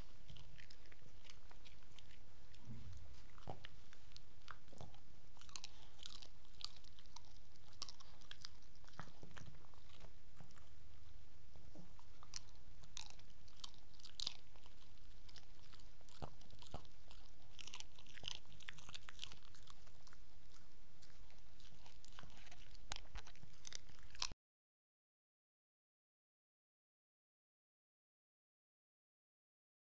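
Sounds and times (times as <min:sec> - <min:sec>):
dog chewing and smacking: 0:00.0 - 0:24.4.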